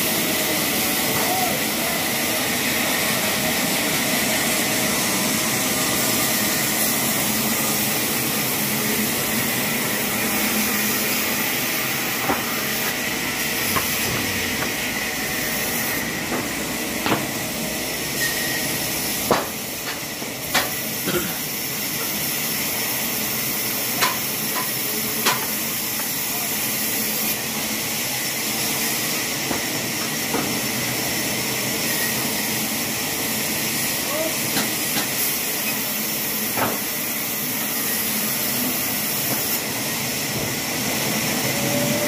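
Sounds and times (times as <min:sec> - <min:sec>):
steady hissing noise: 0:00.0 - 0:42.0.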